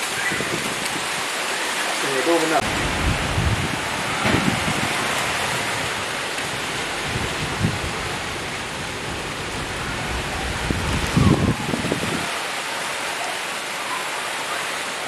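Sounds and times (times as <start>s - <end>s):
heavy rain on foliage: 0.0s - 15.0s.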